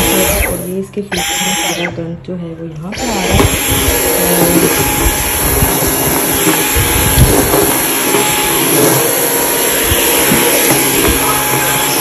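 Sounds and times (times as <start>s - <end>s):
vacuum cleaner motor whine: 0.0s - 2.0s, 2.9s - 12.0s.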